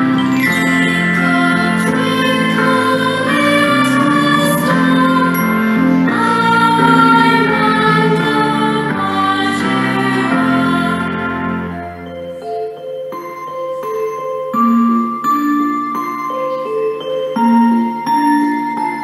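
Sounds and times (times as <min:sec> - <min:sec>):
sustained chords with held melody: 0:00.0 - 0:19.0.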